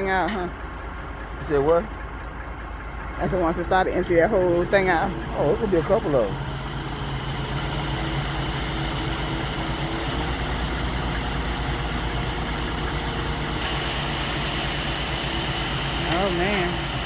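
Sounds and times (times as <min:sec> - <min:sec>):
diesel engine running: 0:00.0 - 0:17.0
high steady whine: 0:00.0 - 0:17.0.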